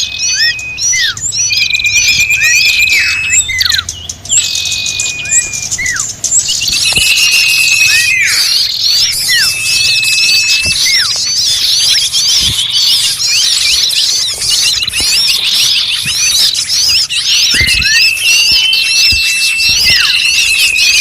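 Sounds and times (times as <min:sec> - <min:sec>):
steady high whistle: 0:00.0 - 0:03.8, 0:04.4 - 0:21.0
chorus of small birds chirping: 0:00.0 - 0:21.0.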